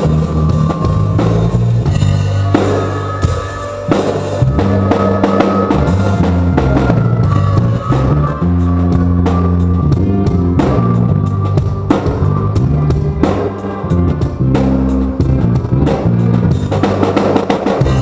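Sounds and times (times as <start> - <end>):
bass notes: 0.0 - 18.0
drum kit beats: 0.0 - 18.0
guitar: 0.0 - 18.0.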